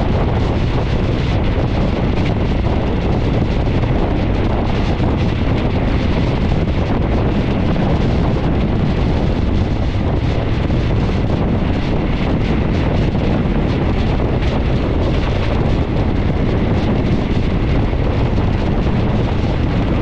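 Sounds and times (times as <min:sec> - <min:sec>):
train rumbling on rails: 0:00.0 - 0:20.0
wind buffeting microphone: 0:00.0 - 0:20.0.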